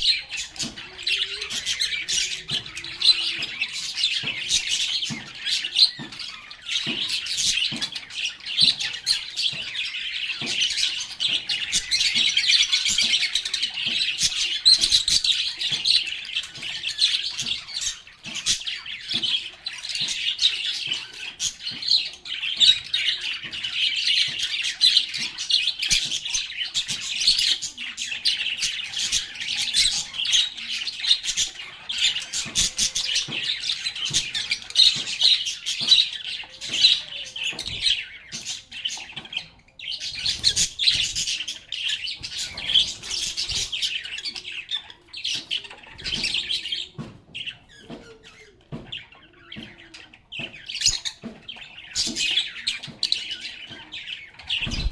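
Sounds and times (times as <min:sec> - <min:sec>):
lovebirds chattering: 0:00.0 - 0:54.9.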